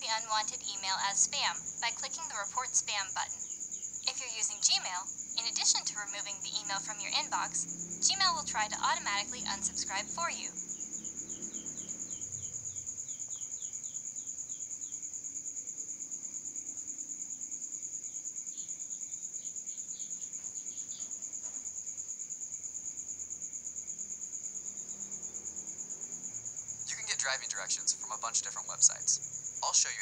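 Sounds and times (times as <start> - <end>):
insect trill: 0.0 - 30.0.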